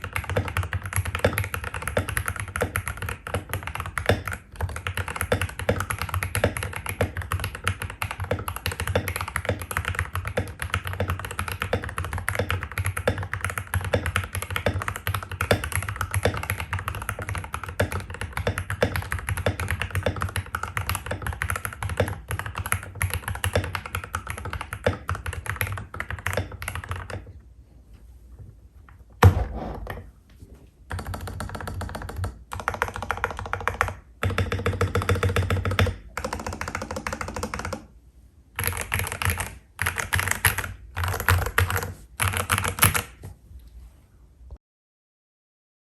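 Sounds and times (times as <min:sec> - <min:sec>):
mechanical keyboard typing: 0:00.0 - 0:27.3, 0:30.9 - 0:37.9, 0:38.6 - 0:43.2.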